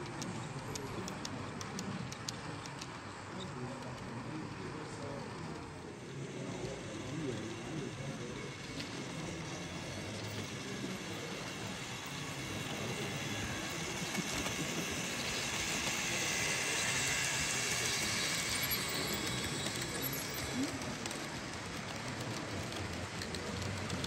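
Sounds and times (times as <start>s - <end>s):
model train rattling on track: 0.0s - 24.0s.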